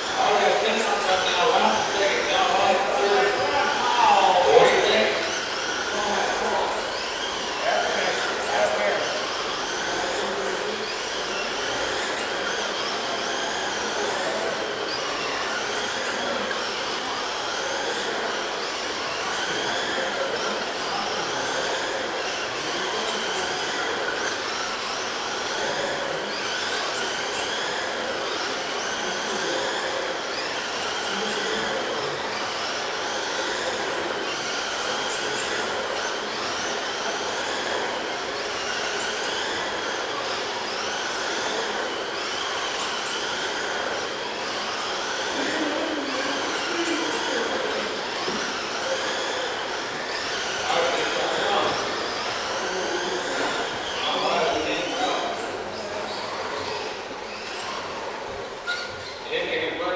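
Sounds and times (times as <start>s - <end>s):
rc truck motors whining: 0.0s - 59.9s.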